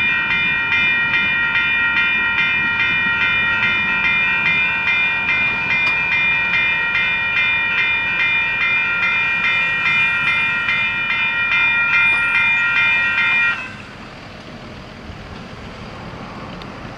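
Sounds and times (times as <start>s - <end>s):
railroad crossing bell ringing: 0.0s - 14.2s.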